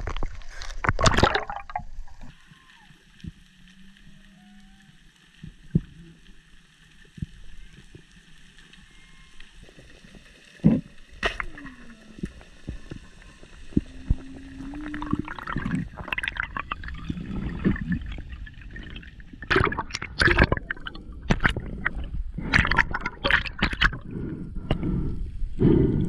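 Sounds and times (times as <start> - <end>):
gurgling water underwater: 0.0 - 26.0.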